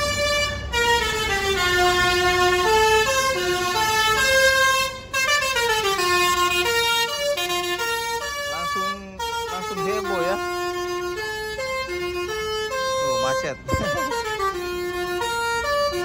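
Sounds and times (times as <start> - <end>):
bus engine rumbling: 0.0 - 16.0
musical air horn playing a tune: 0.0 - 16.0.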